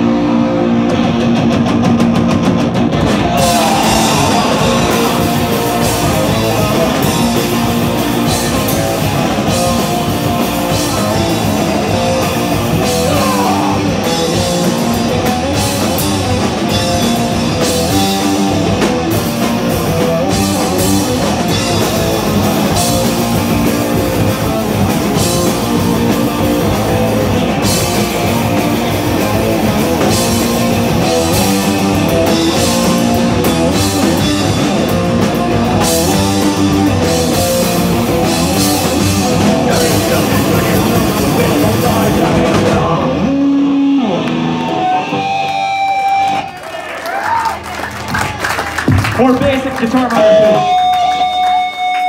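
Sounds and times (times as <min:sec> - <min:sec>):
live punk band playing: 0:00.0 - 0:52.0.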